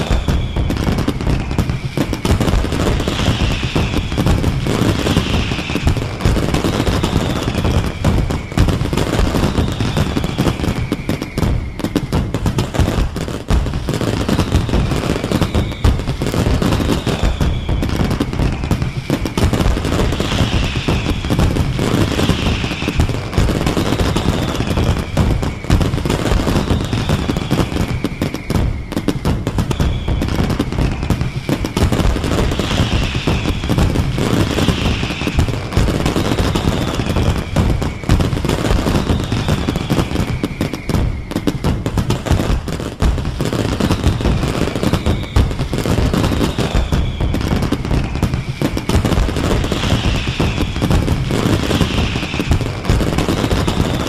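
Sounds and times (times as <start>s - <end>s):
falling firework whistle: 0.0s - 54.0s
fireworks bangs and crackle: 0.0s - 54.0s.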